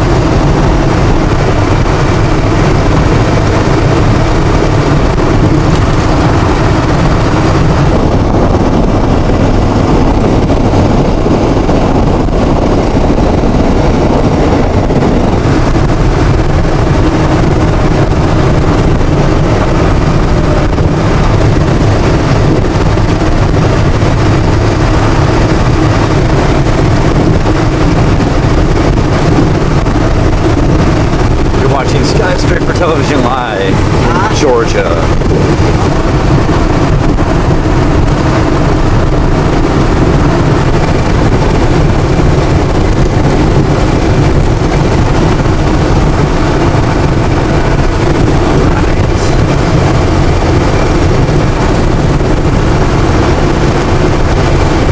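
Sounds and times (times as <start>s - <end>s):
vehicle engine and tyre rumble: 0.0s - 54.9s.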